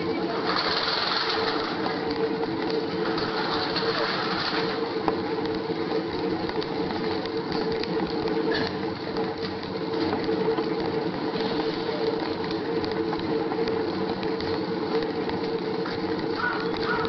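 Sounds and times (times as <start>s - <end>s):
bicycle whirring: 0.0s - 17.0s
street noise: 0.0s - 17.0s.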